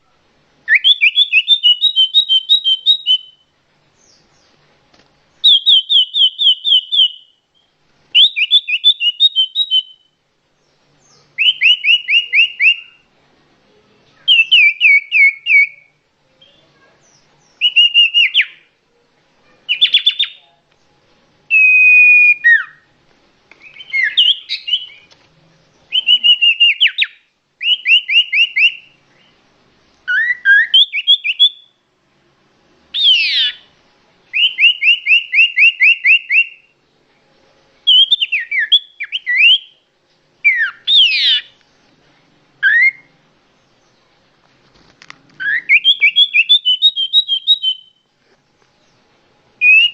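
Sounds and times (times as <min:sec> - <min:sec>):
songbird singing: 0:00.0 - 0:31.9, 0:32.7 - 0:48.1, 0:48.7 - 0:49.9.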